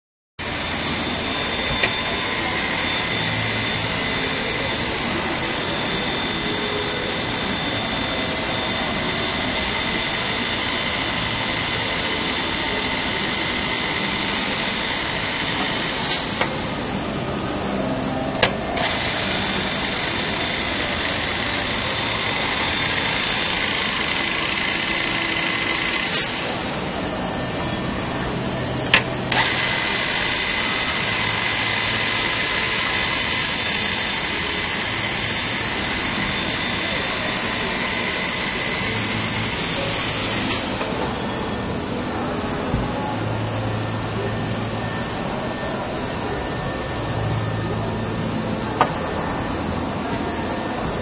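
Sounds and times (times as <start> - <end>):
router machine whining: 0.4 - 51.0.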